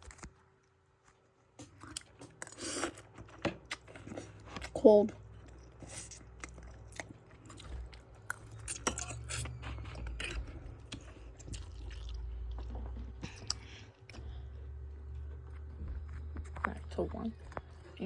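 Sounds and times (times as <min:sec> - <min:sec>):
person chewing noodles: 0:00.0 - 0:18.0.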